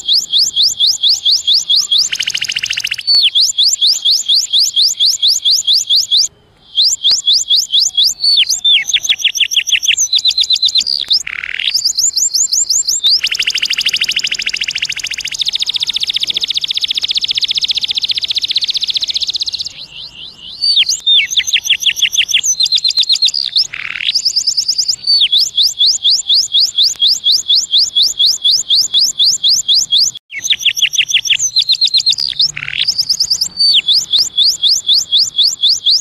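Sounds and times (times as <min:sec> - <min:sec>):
canary singing trills: 0:00.0 - 0:36.0.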